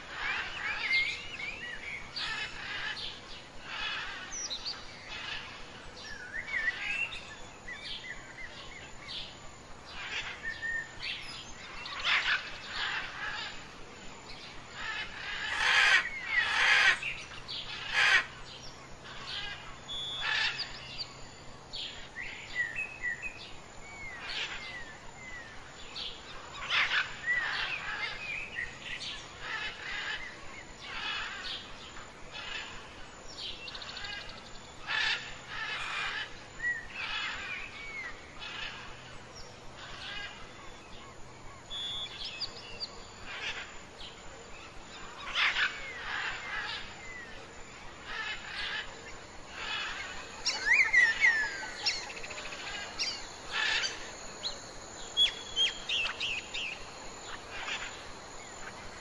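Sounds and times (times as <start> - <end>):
birds chirping and calling: 0.0 - 59.0.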